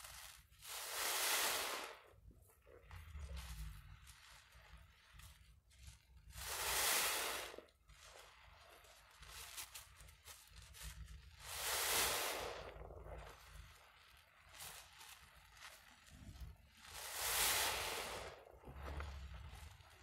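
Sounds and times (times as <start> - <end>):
foam sponge hissing squelch: 0.0 - 20.0
bubbles bursting crackle: 0.1 - 20.0.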